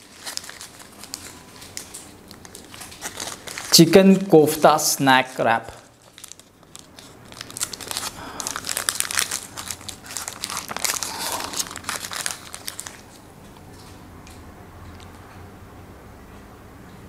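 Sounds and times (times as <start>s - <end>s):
wrapper crinkling: 0.0s - 14.0s.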